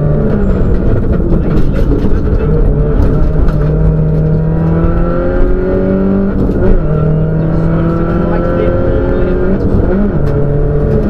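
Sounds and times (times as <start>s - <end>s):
rally car engine under power: 0.0s - 11.0s.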